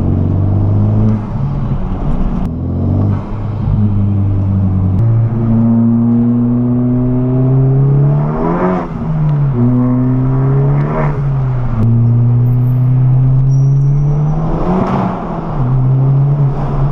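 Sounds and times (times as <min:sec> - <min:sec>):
car engine accelerating: 0:00.0 - 0:16.9.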